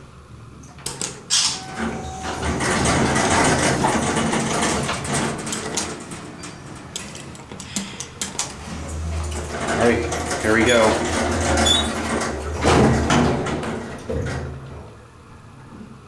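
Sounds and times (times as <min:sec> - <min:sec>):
elevator mechanical rush: 0:00.4 - 0:16.0
elevator clicks: 0:00.6 - 0:15.1.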